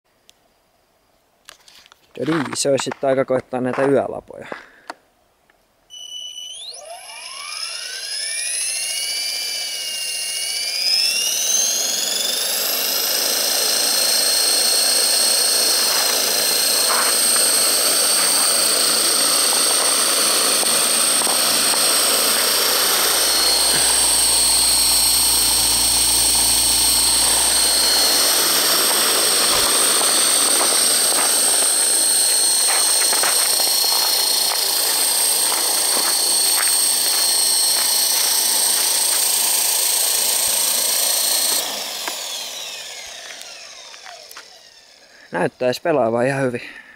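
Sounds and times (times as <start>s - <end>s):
electric helicopter motor whine: 5.9s - 46.9s.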